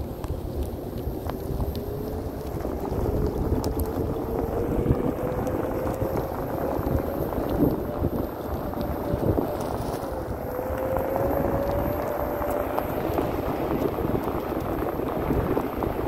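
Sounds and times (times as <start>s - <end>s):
electric motor whine: 0.0s - 16.0s
tyre rumble on paving: 0.0s - 16.0s.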